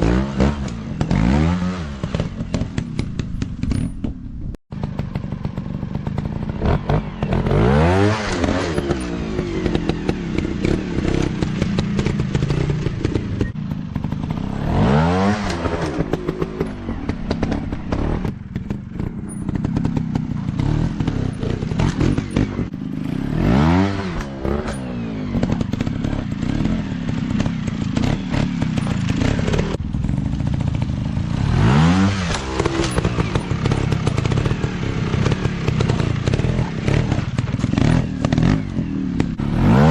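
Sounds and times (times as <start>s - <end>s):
dirt bike revving: 0.0s - 4.0s, 4.7s - 39.9s
dirt bike engines running: 0.0s - 39.9s.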